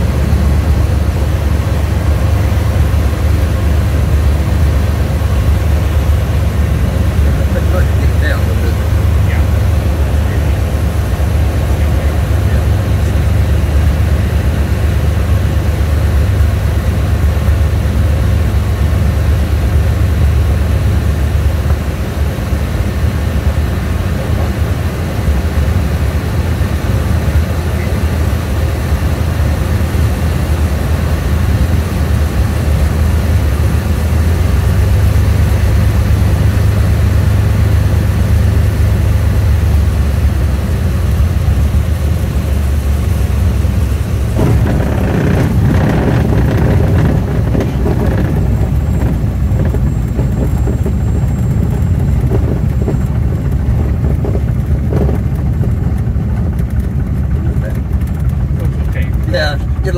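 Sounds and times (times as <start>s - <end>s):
propeller airplane engine droning: 0.0s - 59.9s.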